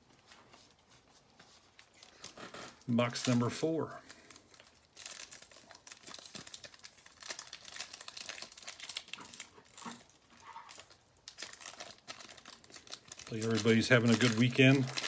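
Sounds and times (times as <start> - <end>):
foil wrapper crinkling and tearing: 1.8 - 15.0.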